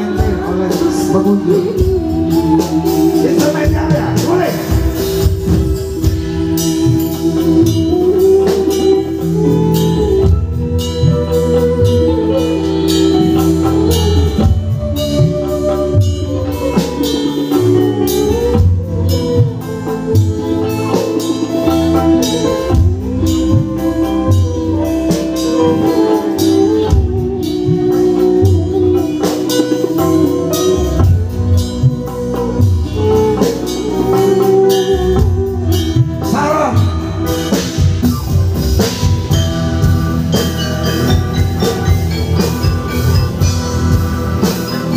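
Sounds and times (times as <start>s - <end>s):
live band music: 0.0s - 44.9s.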